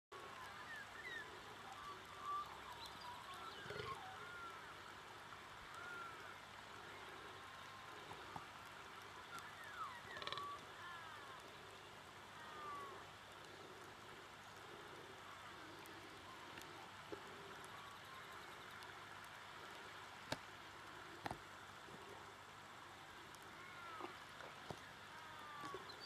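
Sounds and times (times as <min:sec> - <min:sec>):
faint outdoor hiss: 0:00.1 - 0:26.0
small birds chirping: 0:00.2 - 0:22.3, 0:22.9 - 0:26.0.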